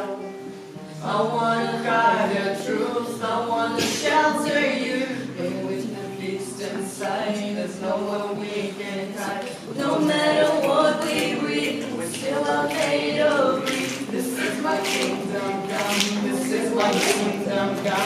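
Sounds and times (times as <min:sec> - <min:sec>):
voices singing a slow pop song: 0:00.0 - 0:18.0.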